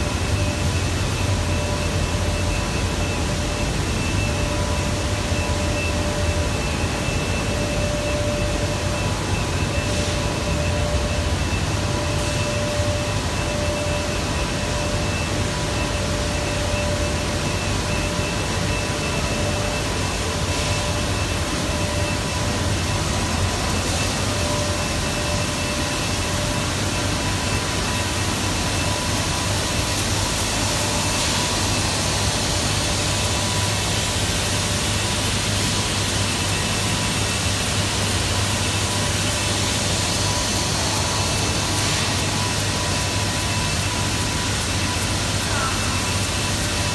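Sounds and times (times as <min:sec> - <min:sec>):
thin steady machine whines: 0:00.0 - 0:46.9.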